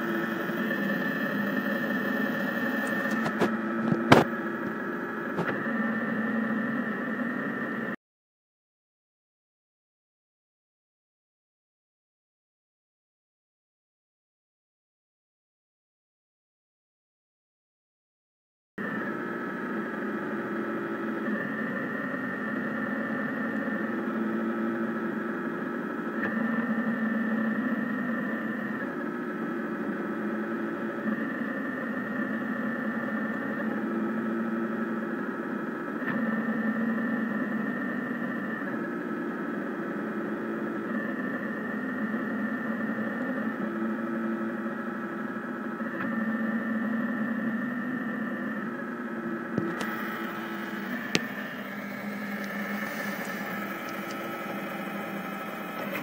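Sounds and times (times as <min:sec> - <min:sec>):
three-d printer stepper motors whining: 0:00.0 - 0:08.0, 0:18.9 - 0:56.0.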